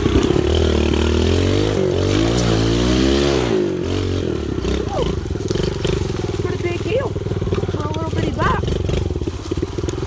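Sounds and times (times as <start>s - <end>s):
pit bike engine revving: 0.0s - 10.0s.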